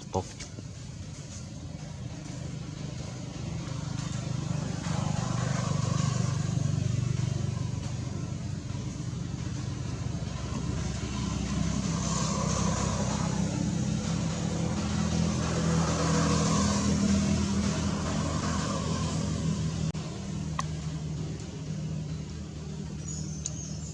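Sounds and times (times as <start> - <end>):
motor vehicle engine humming: 0.0 - 23.9
passing traffic: 0.0 - 23.9.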